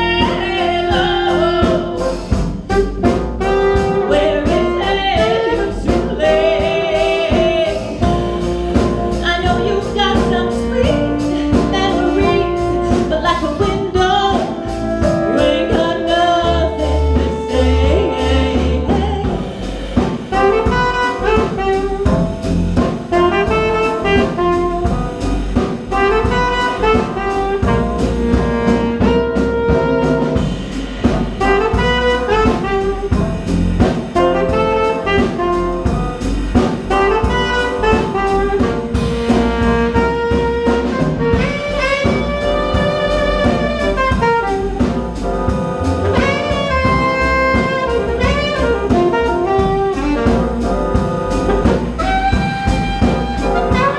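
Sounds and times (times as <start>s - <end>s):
blues band playing: 0.0s - 53.9s.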